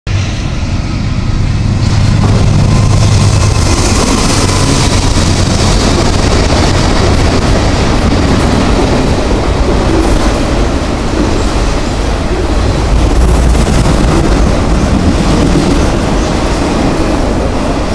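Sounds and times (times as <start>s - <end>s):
diesel locomotive engine hum: 0.1s - 17.9s
train wheels on rails: 0.1s - 17.9s.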